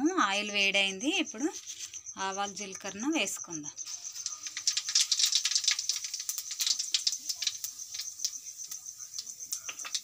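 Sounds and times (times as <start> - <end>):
seeds crackling in hot oil: 0.2 - 10.0.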